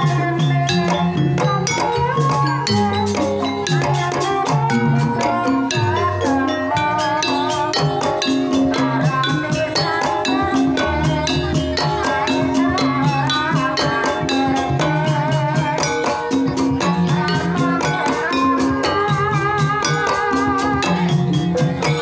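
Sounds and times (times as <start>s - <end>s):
gamelan music: 0.0s - 22.0s
hand drums beating: 0.0s - 22.0s.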